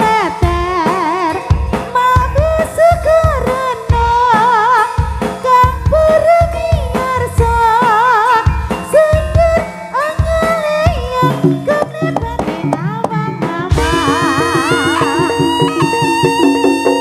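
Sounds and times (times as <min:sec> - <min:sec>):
ornamented lead melody: 0:00.0 - 0:17.0.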